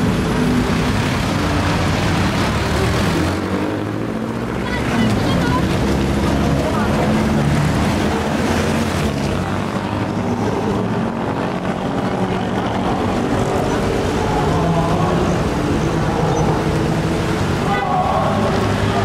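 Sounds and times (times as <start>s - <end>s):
street traffic hubbub: 0.0s - 19.0s
vehicle engine drone: 0.0s - 19.0s.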